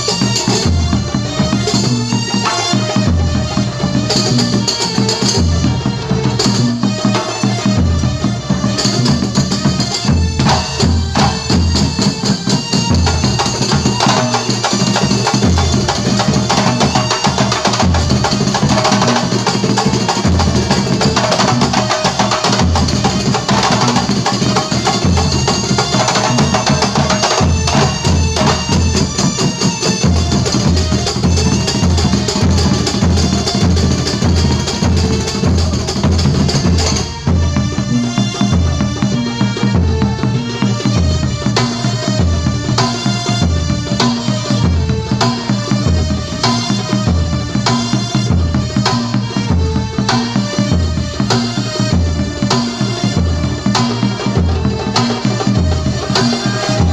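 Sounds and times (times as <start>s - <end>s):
frame drums beating: 0.0s - 56.9s.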